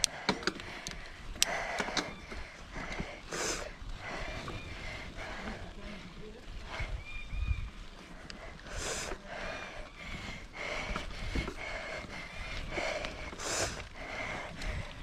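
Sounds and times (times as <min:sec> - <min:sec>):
bike and trail rumble: 0:00.0 - 0:15.0
rider breathing hard: 0:00.0 - 0:15.0.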